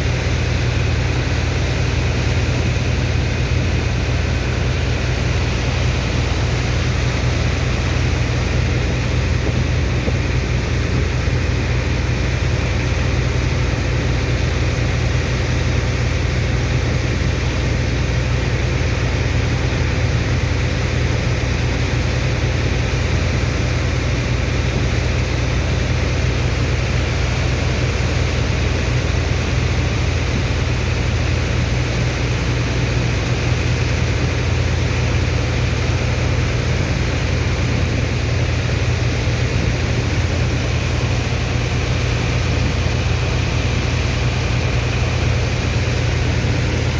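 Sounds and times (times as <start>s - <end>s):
pump engine droning: 0.0s - 46.9s.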